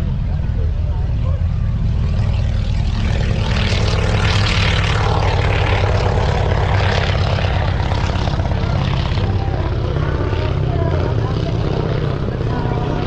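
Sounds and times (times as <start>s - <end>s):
propeller aircraft engine: 0.0s - 13.0s.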